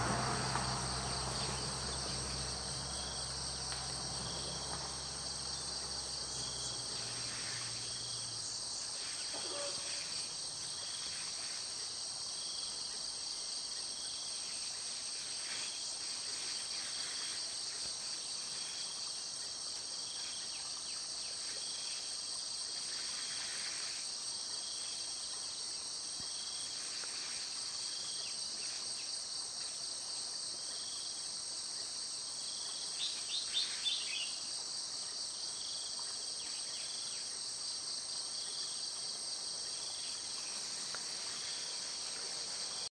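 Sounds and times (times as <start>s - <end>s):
high-pitched insect chorus: 0.0s - 42.9s.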